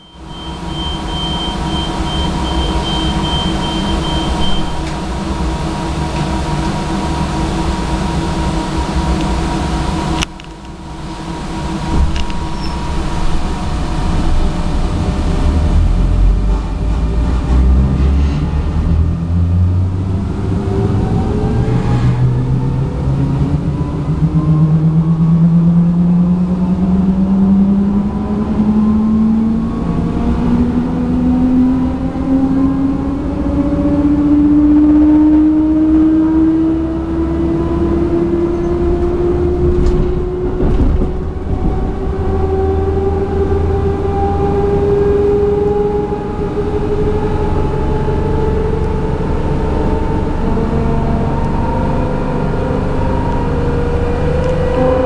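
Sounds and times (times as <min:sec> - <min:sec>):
traction motor whine rising: 0:00.0 - 0:55.0
train hum and rumble: 0:00.0 - 0:55.0.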